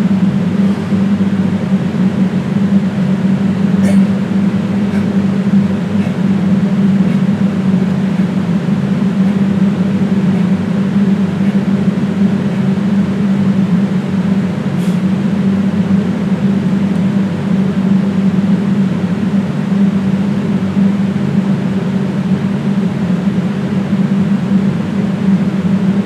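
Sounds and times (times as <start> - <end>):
loud droning hum: 0.0 - 26.0.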